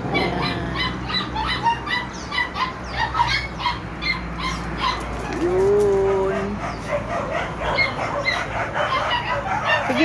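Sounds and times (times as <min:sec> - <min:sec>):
dogs barking and yapping: 0:00.0 - 0:10.0.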